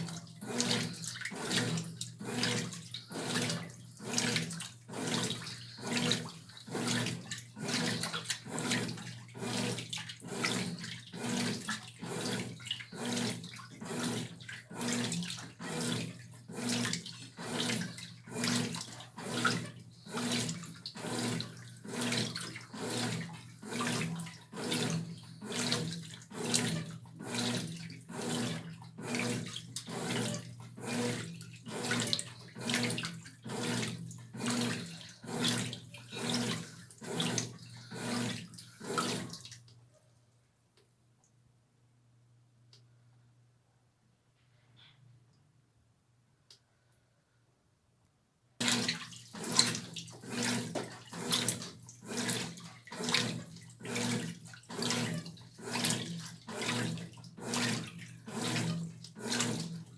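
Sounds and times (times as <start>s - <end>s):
washing machine sloshing: 0.0s - 39.7s, 48.6s - 59.9s.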